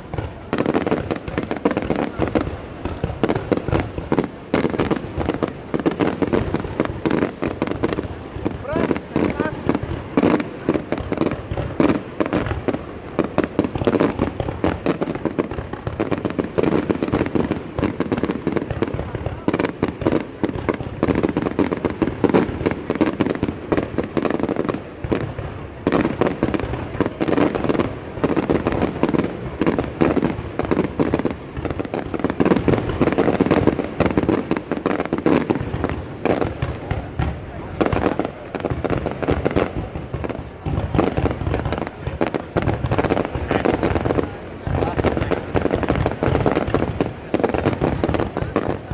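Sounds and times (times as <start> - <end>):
fireworks cracking and banging: 0.0 - 48.9.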